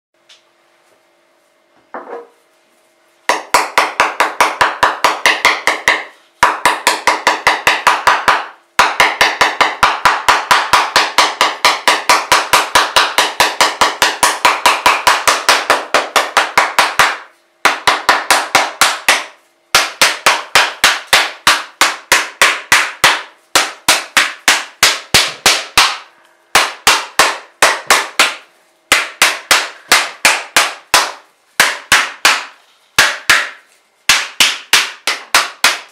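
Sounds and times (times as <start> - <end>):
hammer tapping coconut shell: 3.3 - 35.9.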